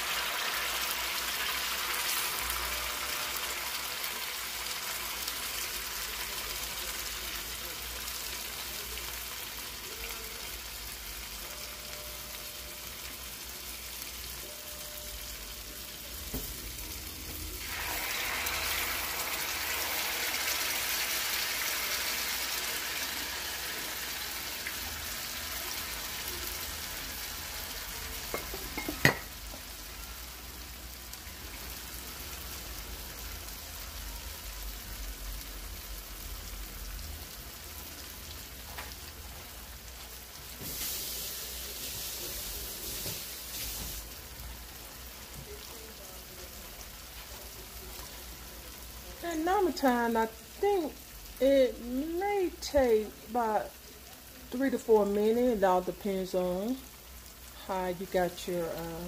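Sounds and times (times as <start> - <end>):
batter sizzling in hot oil: 0.0 - 59.0.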